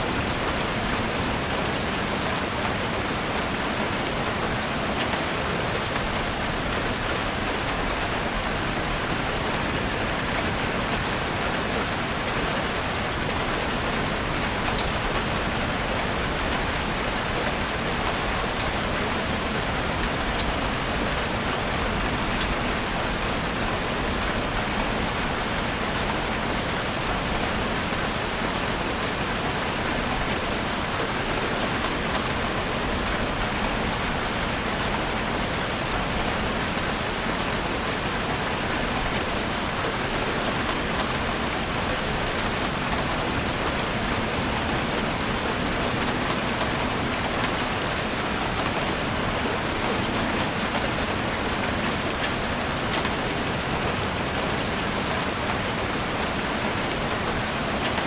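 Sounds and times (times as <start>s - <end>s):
heavy rain drumming on a roof: 0.0s - 58.0s.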